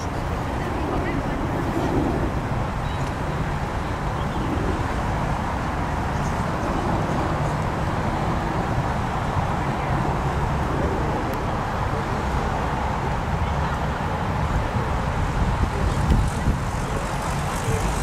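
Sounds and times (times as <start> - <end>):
faint voices: 0.0 - 18.0.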